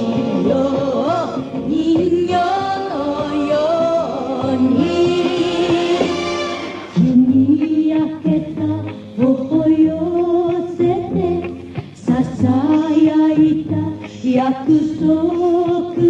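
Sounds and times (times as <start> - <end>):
instrumental accompaniment: 0.0 - 16.0
person singing: 0.0 - 16.0.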